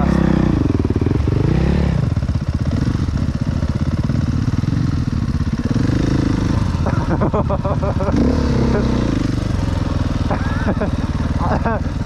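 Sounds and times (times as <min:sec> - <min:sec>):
dirt bike idling: 0:00.0 - 0:12.0
dirt bike revving and pulling away: 0:00.0 - 0:12.0.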